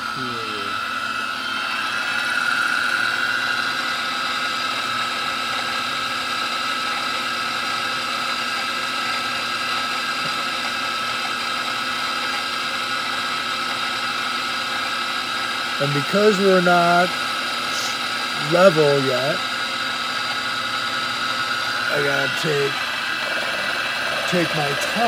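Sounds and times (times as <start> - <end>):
milling machine whining: 0.0 - 25.0.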